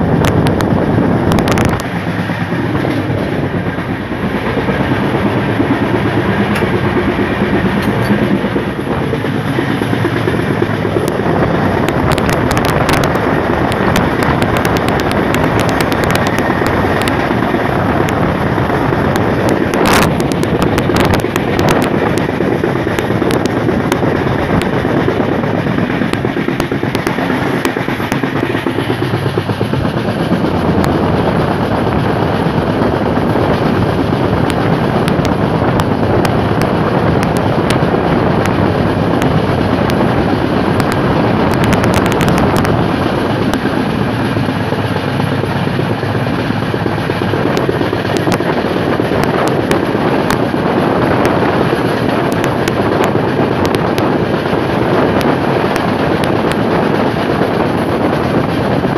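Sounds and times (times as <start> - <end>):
train wheel rumble and wind: 0.0 - 58.9
wheels clicking over rail joints: 0.0 - 58.9.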